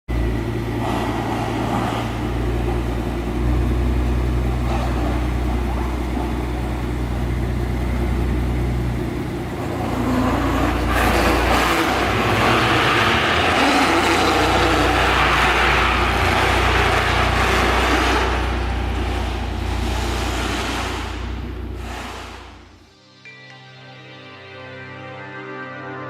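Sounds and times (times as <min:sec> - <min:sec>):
car engine low drone: 0:00.1 - 0:23.3.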